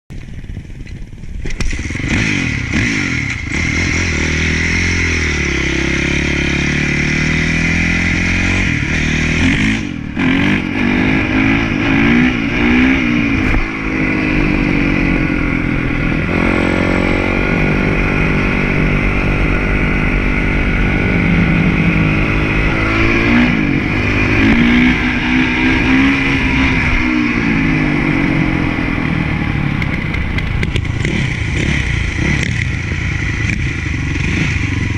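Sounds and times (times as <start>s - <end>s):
motocross bike engine revving: 1.5s - 34.9s.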